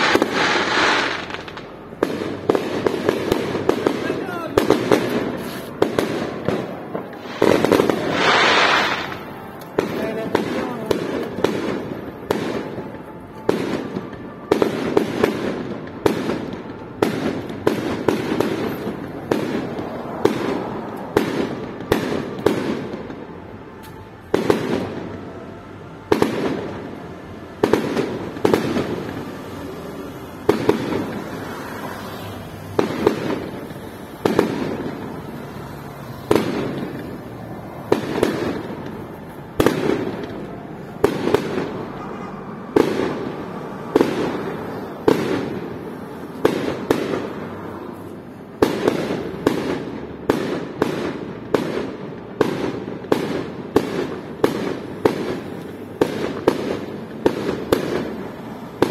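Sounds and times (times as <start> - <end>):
fireworks bangs: 0.0 - 58.9.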